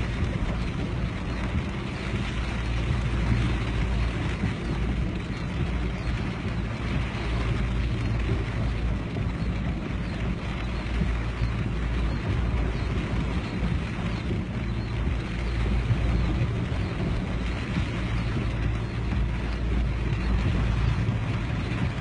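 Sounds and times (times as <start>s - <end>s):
floodwater rushing down a road: 0.0s - 22.0s
heavy rain: 0.0s - 22.0s.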